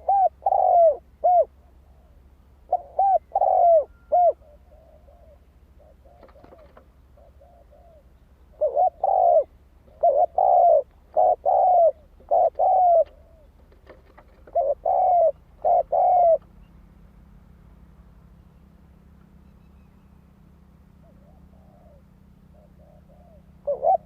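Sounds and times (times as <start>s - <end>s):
dove cooing: 0.0s - 16.6s, 20.9s - 24.0s.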